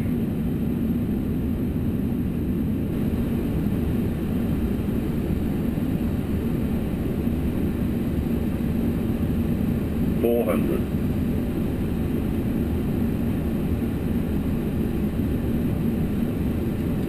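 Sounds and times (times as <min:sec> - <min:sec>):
aircraft cockpit rumble: 0:00.0 - 0:17.0
constant hum: 0:00.0 - 0:17.0.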